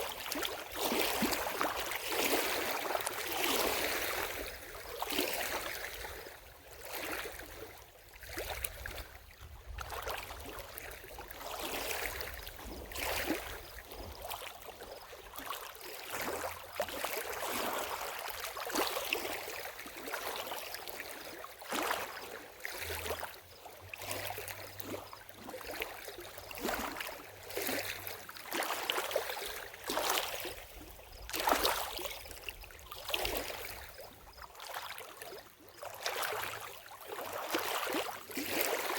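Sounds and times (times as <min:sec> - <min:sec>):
lake water lapping: 0:00.0 - 0:38.9.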